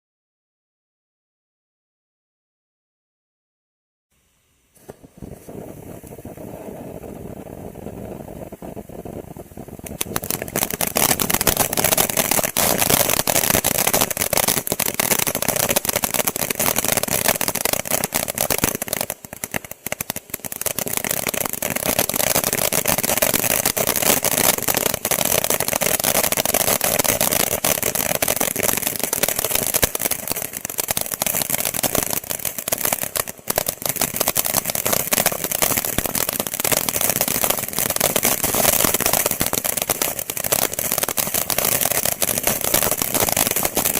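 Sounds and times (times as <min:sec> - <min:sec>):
firework spraying sparks: 0:04.7 - 0:43.9.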